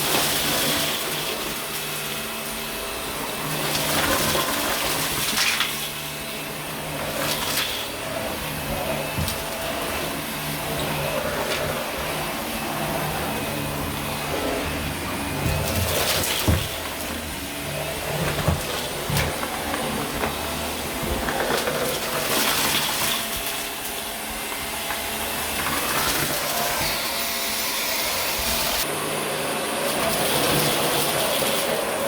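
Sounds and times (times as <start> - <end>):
vacuum cleaner on carpet: 0.0 - 32.0.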